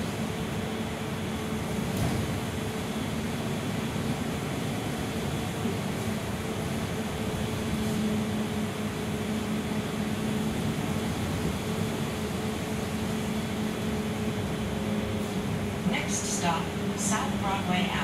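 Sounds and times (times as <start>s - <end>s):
bus engine and drivetrain hum: 0.0s - 18.0s
road noise: 2.7s - 18.0s.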